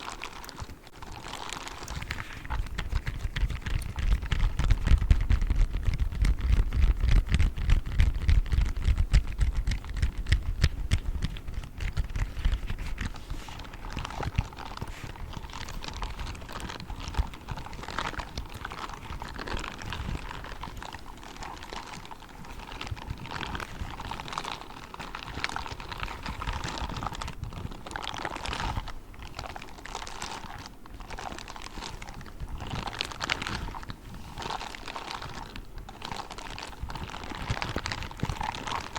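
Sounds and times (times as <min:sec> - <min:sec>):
gloves scratched and tapped: 0:00.0 - 0:38.9.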